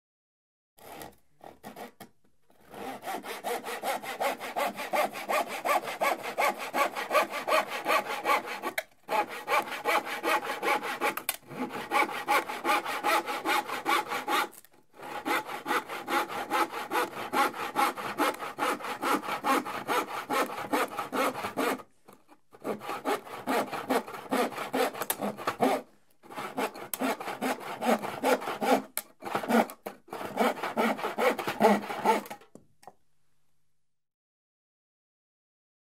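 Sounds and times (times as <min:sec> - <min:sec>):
hand saw cutting plywood: 0:00.8 - 0:32.5.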